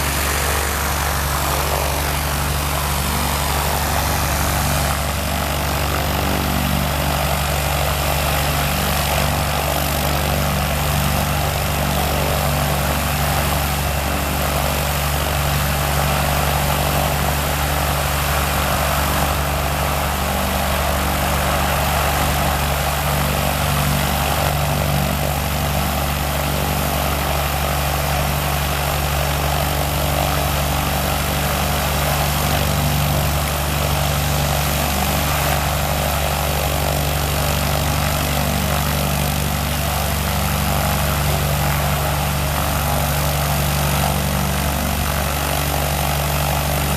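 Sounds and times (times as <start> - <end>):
light aircraft engine and propeller: 0.0 - 46.9.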